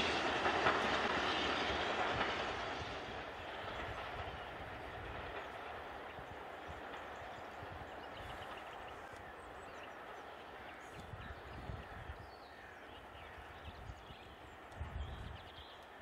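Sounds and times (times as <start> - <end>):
faint train rumble: 0.0 - 16.0.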